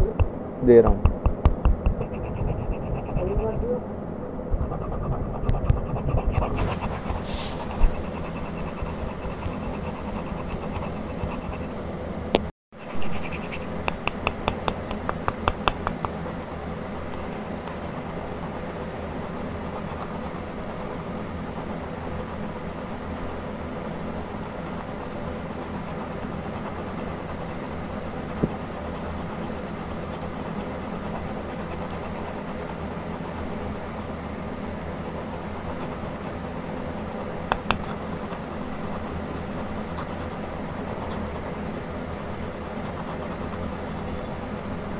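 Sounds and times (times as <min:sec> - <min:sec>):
steady low hum: 0:00.0 - 0:44.9
pencil scratching on paper: 0:01.3 - 0:03.6, 0:04.6 - 0:11.8, 0:12.8 - 0:44.7.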